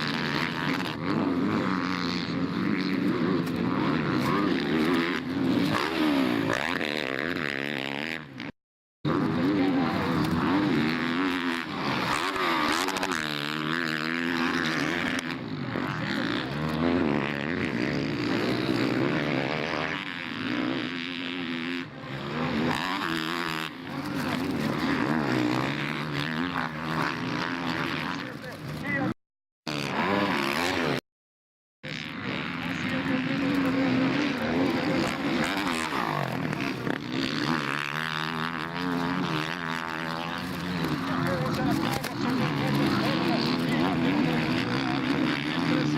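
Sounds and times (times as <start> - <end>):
motorcycle engines revving: 0.0 - 31.0, 31.8 - 45.9.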